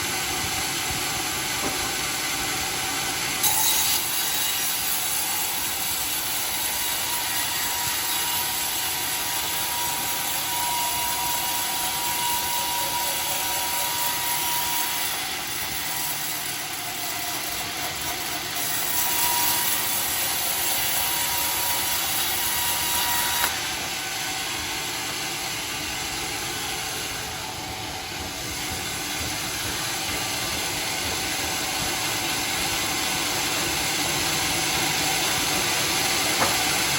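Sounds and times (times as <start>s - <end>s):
sawmill cutting wood: 0.0s - 36.9s.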